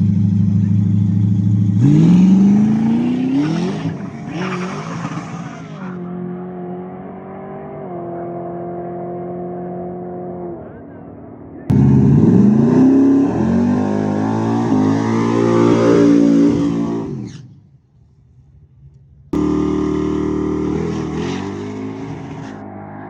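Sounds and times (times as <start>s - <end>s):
high-revving engine: 0.0s - 11.0s, 11.6s - 17.6s, 19.4s - 23.0s
race car engine accelerating: 0.0s - 11.0s, 11.6s - 17.5s, 19.4s - 23.0s.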